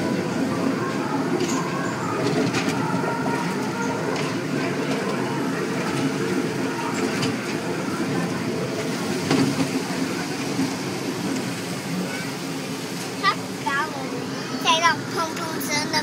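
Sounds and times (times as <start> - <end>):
ride train rumbling: 0.0 - 16.0.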